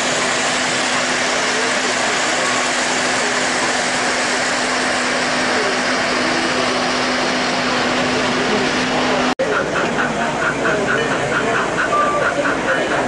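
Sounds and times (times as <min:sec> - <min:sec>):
crowd chatter: 0:00.0 - 0:13.0
model train wheels rumbling: 0:00.0 - 0:13.0.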